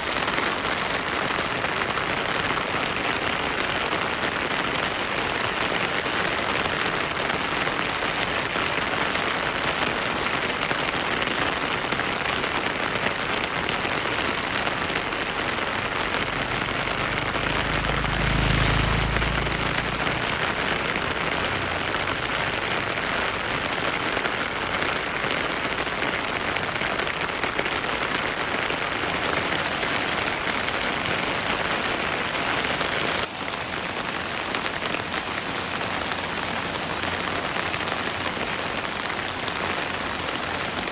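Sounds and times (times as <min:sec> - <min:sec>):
heavy rain in a forest: 0:00.0 - 0:40.9.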